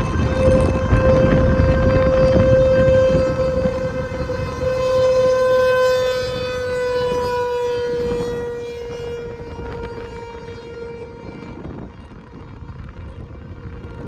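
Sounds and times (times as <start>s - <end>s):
tornado warning siren: 0.0s - 14.0s.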